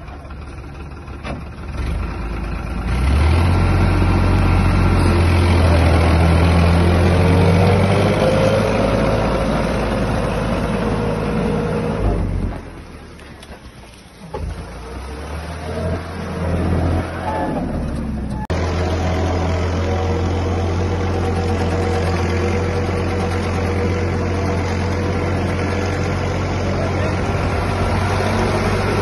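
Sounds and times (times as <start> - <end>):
tractor engine working under load: 0.0 - 29.0.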